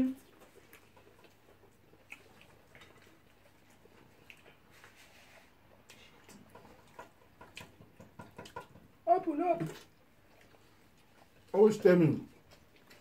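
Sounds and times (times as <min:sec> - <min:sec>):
mouths chewing: 0:00.0 - 0:13.0.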